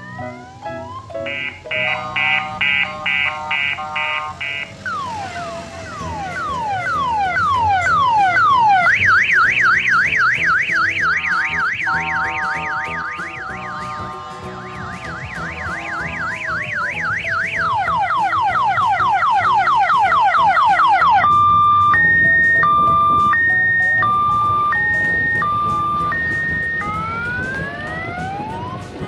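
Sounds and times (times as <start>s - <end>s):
electronic vehicle siren: 0.0s - 29.0s.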